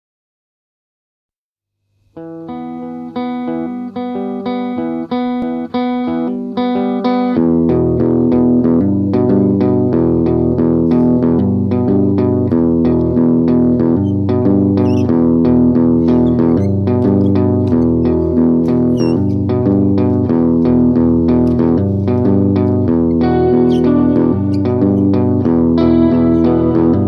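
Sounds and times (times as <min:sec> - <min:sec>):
picked guitar notes: 0:02.2 - 0:27.0.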